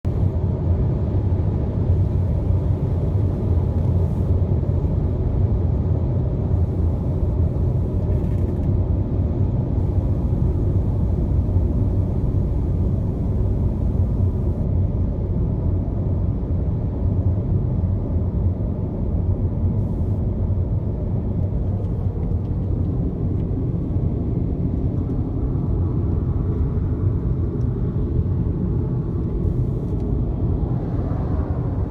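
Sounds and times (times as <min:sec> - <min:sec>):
highway road noise rumble: 0:00.0 - 0:31.9.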